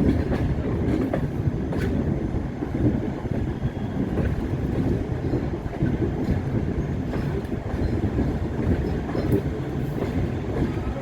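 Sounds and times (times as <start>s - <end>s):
train rumbling: 0.0s - 11.0s
wheels clicking on rails: 0.0s - 11.0s
wind on microphone: 0.0s - 11.0s.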